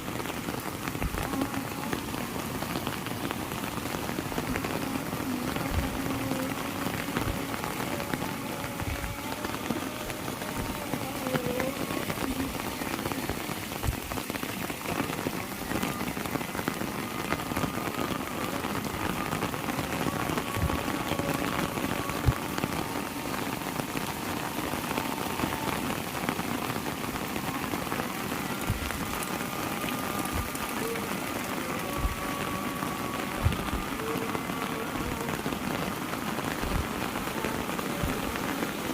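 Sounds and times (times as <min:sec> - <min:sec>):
heavy rain falling: 0:00.0 - 0:38.9
sharp raindrops striking nearby: 0:00.0 - 0:38.9.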